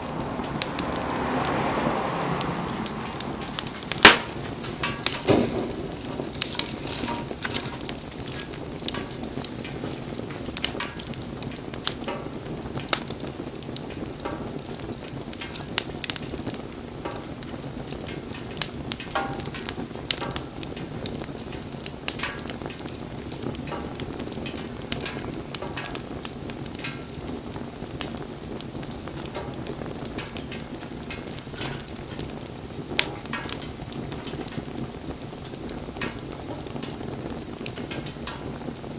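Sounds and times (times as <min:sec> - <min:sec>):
fire crackles and pops: 0:00.0 - 0:38.9
wood fire hissing: 0:00.0 - 0:38.9.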